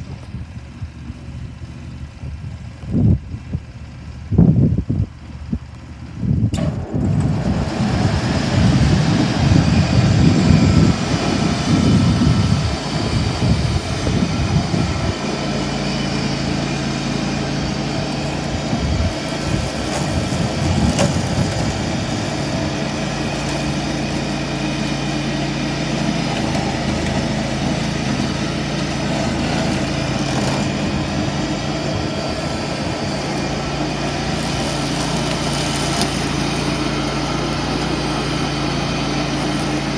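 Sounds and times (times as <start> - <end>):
tractor diesel engine and shredder running: 0.0 - 39.9.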